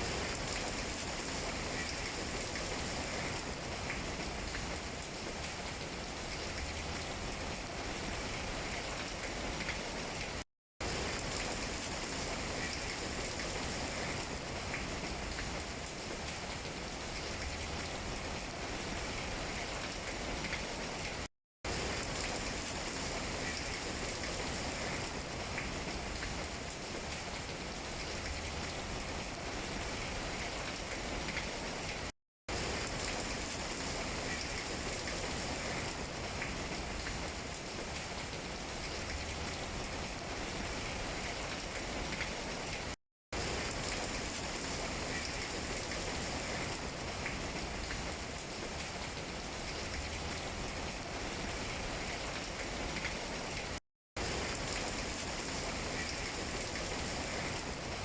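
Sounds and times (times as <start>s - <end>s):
rain on tree leaves: 0.0s - 58.0s.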